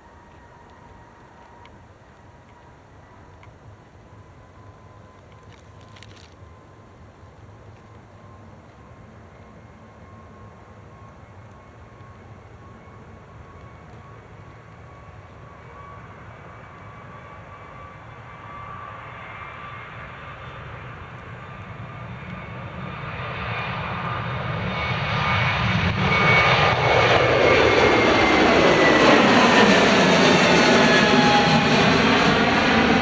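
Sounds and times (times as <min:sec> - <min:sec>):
jet engines rumble and whine: 0:00.0 - 0:33.0.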